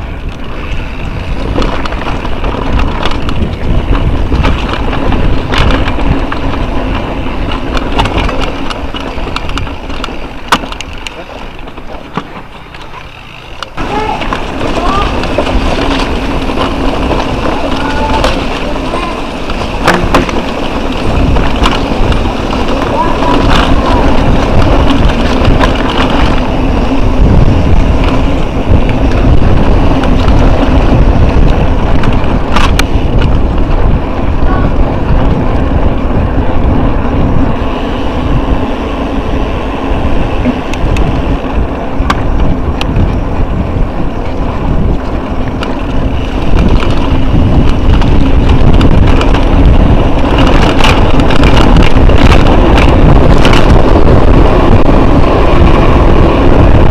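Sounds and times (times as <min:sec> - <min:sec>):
bike rattling and clicking: 0:00.0 - 0:56.9
tyres rumbling on dirt: 0:00.0 - 0:56.9
wind buffeting microphone: 0:00.0 - 0:56.9.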